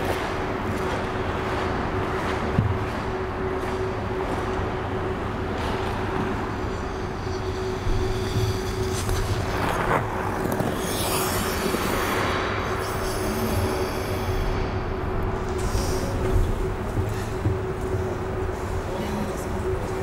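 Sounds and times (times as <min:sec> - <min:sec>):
constant hum: 0:00.0 - 0:20.0
steady rumble: 0:00.0 - 0:20.0.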